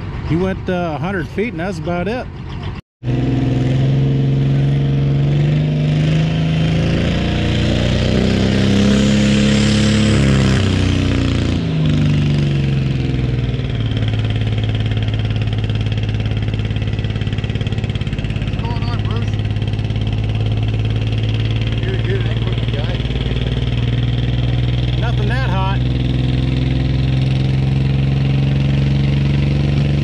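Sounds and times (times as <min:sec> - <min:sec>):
diesel tractor engine revving: 0:00.0 - 0:30.0.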